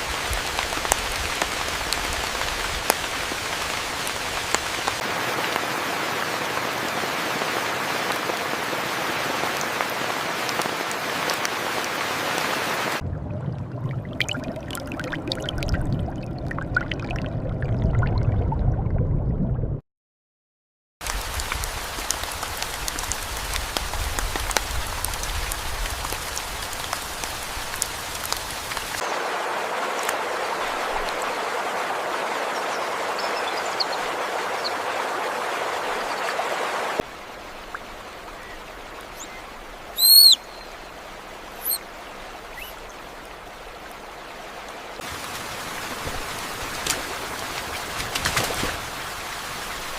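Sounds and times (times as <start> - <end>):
steady rain falling: 0.0 - 13.0, 21.0 - 49.9.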